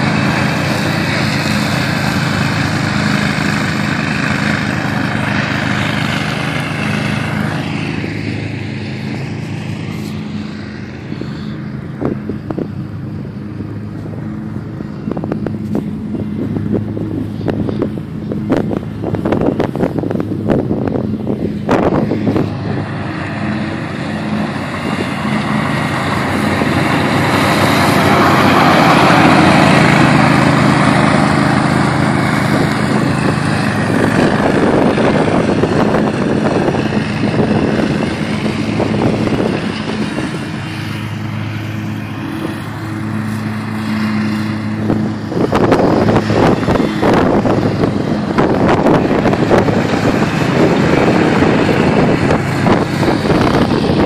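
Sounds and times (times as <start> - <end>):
blades cutting dry grass: 0.0 - 54.0
mower engines running: 0.0 - 54.0.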